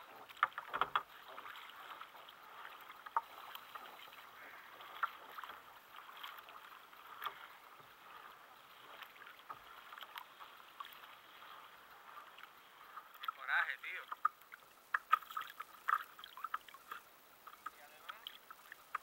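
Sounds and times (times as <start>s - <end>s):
waves lapping against kayak hull: 0.0s - 19.0s.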